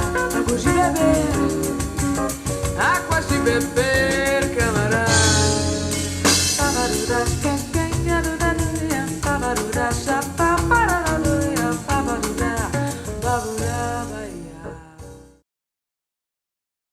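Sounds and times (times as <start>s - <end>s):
bossa nova song with singing: 0.0s - 15.4s.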